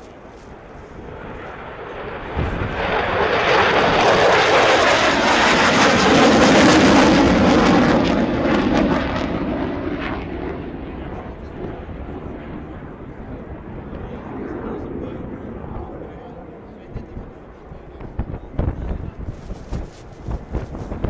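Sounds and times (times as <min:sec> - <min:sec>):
jet aircraft engine roar: 0:00.0 - 0:21.0.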